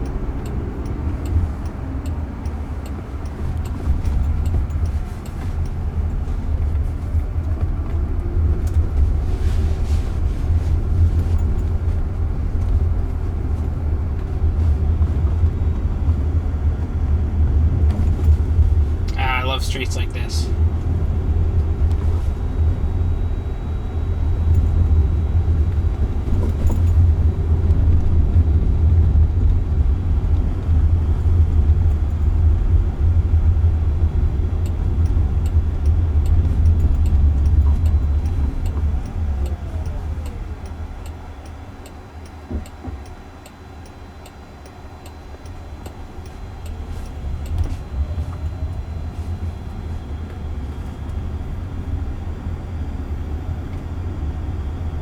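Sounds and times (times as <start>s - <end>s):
car whine: 0.0s - 55.0s
road and tyre rumble in car: 0.0s - 55.0s.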